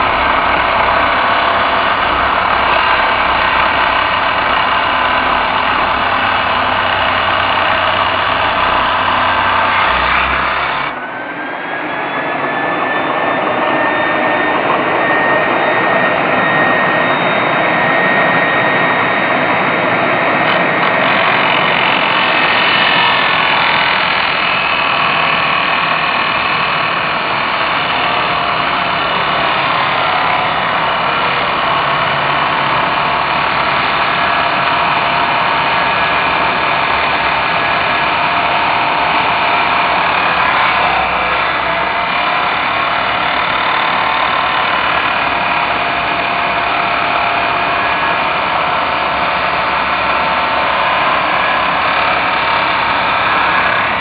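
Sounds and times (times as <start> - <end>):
power tool cutting steel: 0.0 - 54.0.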